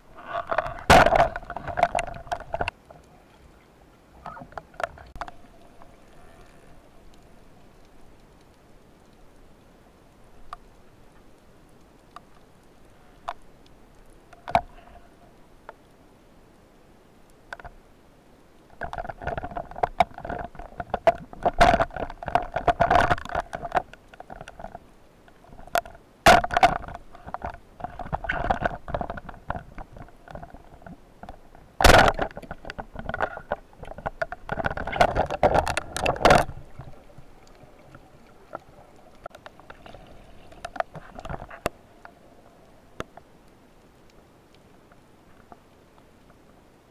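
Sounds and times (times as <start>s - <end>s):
underwater rustling and scraping: 0.0s - 16.0s, 17.2s - 46.9s.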